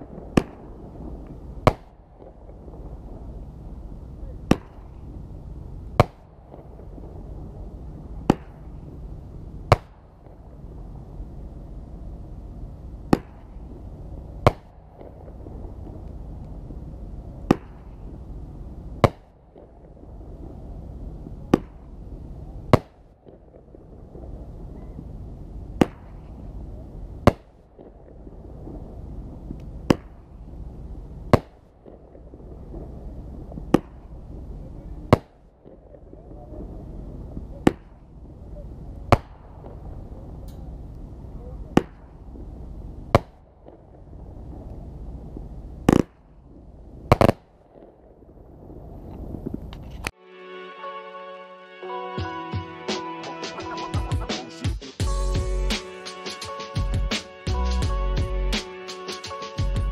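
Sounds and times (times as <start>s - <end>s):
fireworks bangs: 0.0s - 49.6s.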